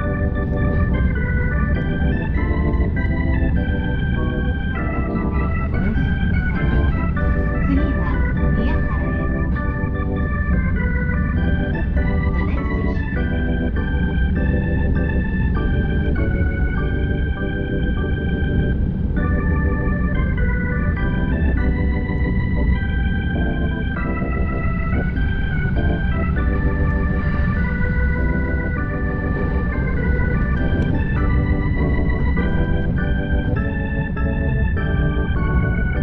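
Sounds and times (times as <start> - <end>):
organ-like keyboard melody: 0.0 - 36.0
steady low rumble: 0.0 - 36.0.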